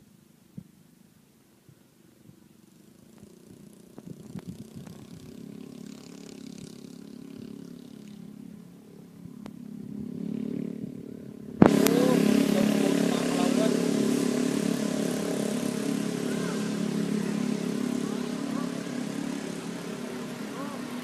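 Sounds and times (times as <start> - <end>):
engine running: 1.9 - 21.0.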